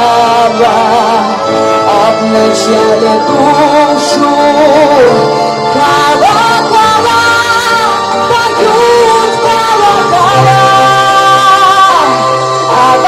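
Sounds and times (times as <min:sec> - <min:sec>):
instrumental backing track: 0:00.0 - 0:13.0
woman singing: 0:00.0 - 0:13.0.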